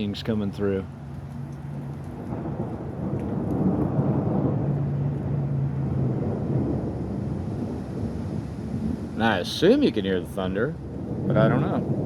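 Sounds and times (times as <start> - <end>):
rolling thunder: 1.6 - 12.0.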